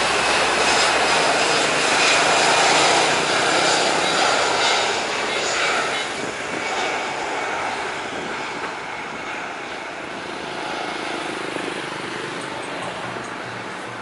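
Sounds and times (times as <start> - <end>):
airliner jet engines rushing: 0.0 - 14.0.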